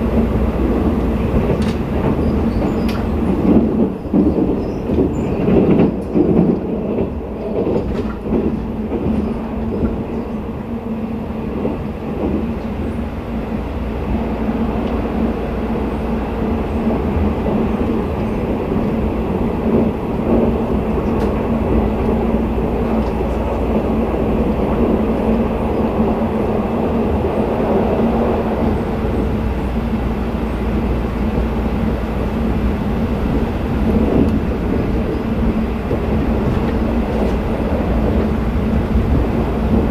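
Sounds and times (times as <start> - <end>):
train clattering: 0.0 - 39.9
train wheels rumbling on rail: 0.0 - 39.9.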